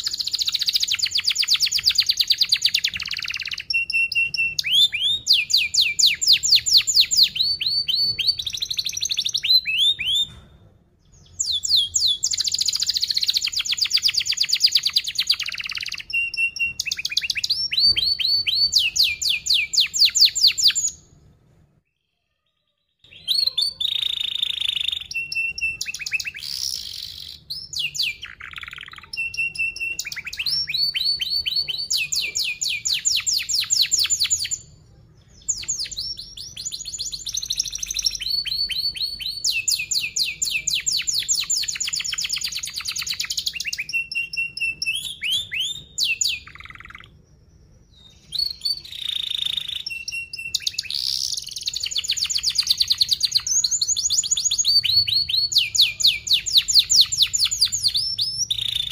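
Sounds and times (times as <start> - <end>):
canary singing trills: 0.0 - 10.4, 11.0 - 21.2, 22.0 - 58.9.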